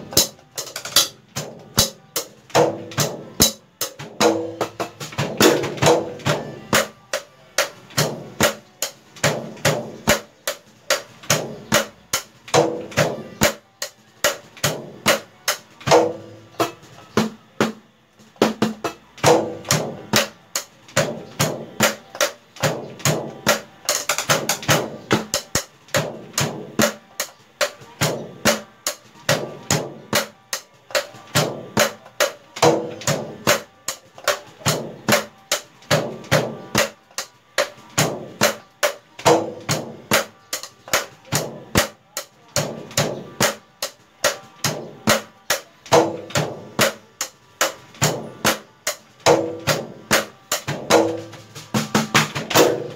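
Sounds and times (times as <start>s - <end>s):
sticks tapping drum pads: 0.0s - 17.8s, 18.4s - 52.9s.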